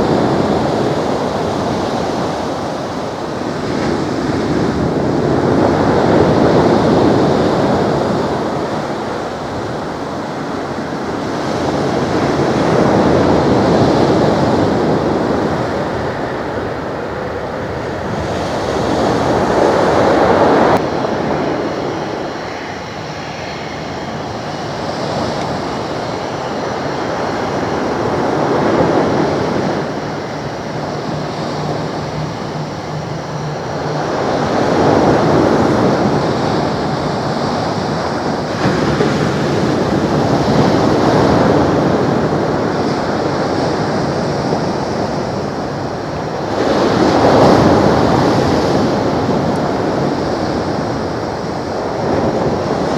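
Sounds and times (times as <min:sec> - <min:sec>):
wind on microphone: 0:00.0 - 0:52.9.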